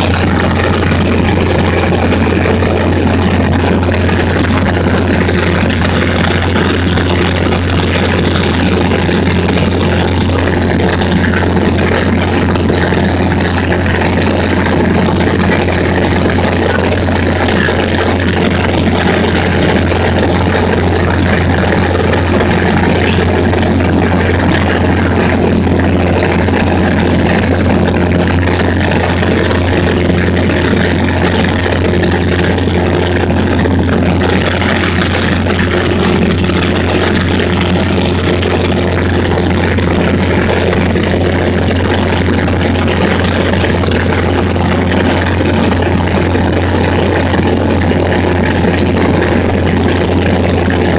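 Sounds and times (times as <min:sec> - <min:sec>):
airplane engine drone from inside: 0:00.0 - 0:50.9.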